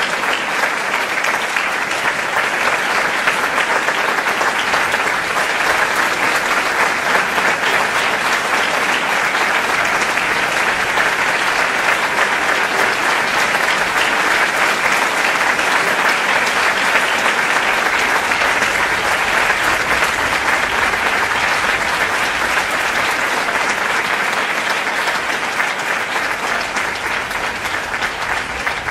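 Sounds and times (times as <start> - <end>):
audience applause: 0.0 - 28.9.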